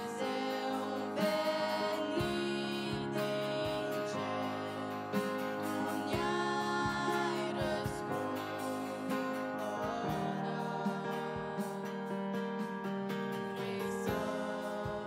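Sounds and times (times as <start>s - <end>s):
girls singing worship song: 0.0s - 12.3s, 13.4s - 15.0s
digital piano: 0.0s - 15.0s.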